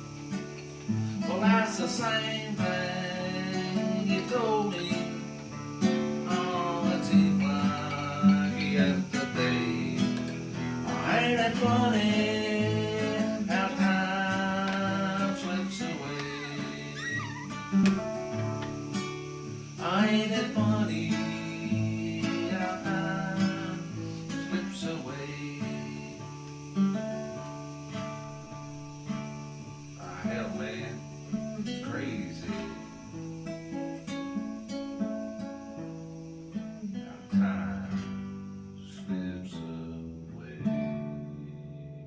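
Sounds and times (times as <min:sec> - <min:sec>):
acoustic guitar strummed chords: 0:00.0 - 0:42.0.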